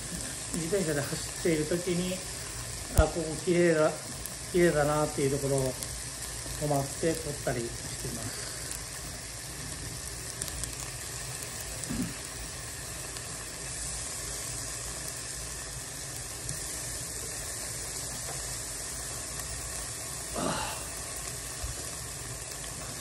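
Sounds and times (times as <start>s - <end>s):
meat sizzling on grill: 0.0s - 23.0s.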